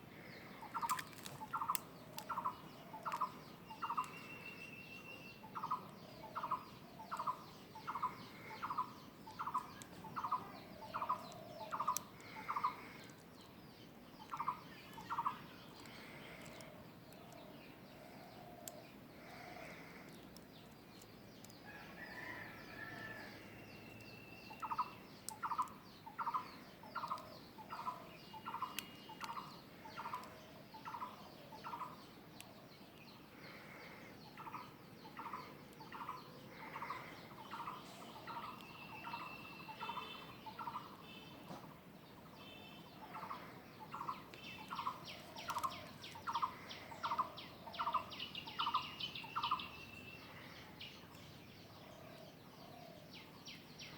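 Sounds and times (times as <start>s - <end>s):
birds whistling and trilling: 0.2s - 53.9s.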